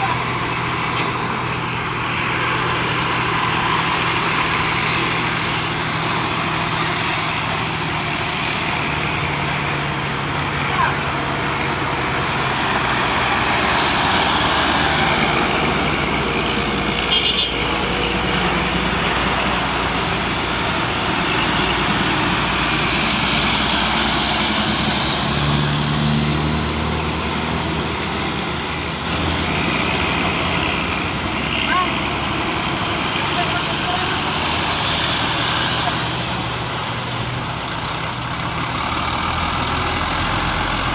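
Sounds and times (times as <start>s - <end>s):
heavy vehicle engine: 0.0s - 40.9s
traffic noise: 0.0s - 40.9s.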